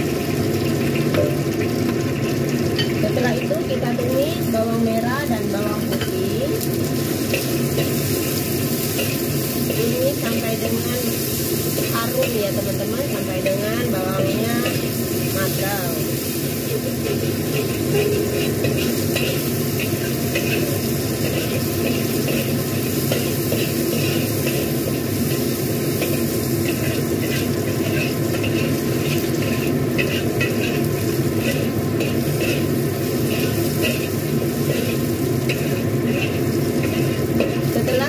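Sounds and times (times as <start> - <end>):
shallots and garlic sizzling in oil: 0.0 - 38.0
metal spatula scraping a wok: 5.9 - 38.0.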